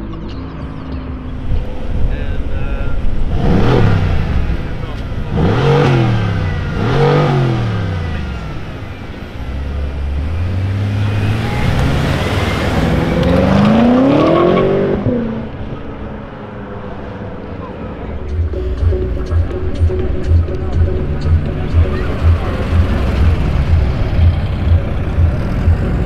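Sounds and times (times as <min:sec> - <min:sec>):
car engine revving: 0:00.0 - 0:26.0
car accelerating hard: 0:01.4 - 0:18.0, 0:20.6 - 0:26.0.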